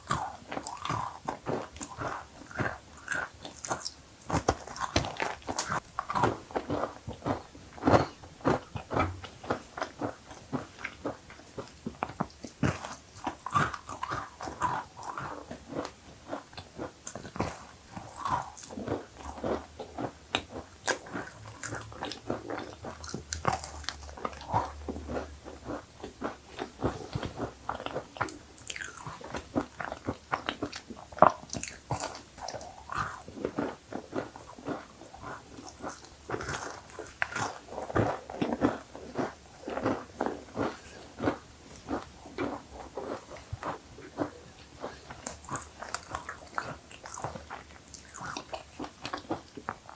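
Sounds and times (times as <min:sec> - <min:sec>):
person chewing cookies: 0:00.0 - 0:49.9.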